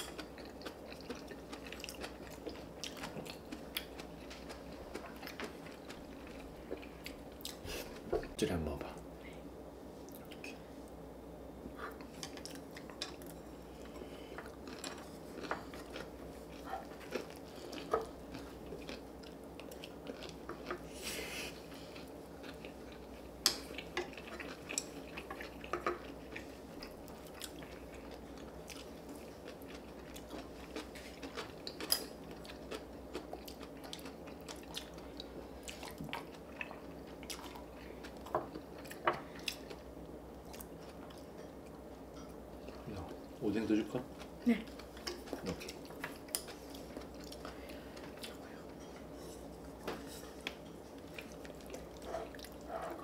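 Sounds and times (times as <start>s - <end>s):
people chewing: 0.0s - 8.4s, 11.7s - 53.0s
low background hum: 0.0s - 53.0s.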